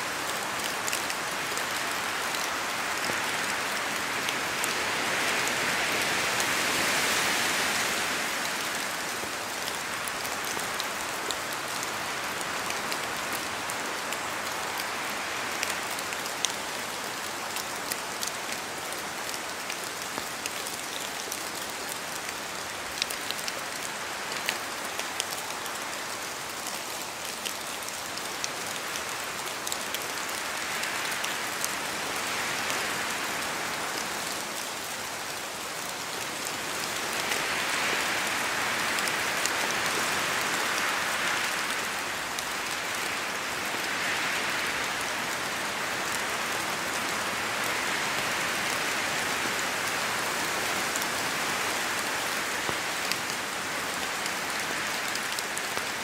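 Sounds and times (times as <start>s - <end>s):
steady rain in forest: 0.0s - 56.0s
wind gusts shaking trees: 0.0s - 56.0s.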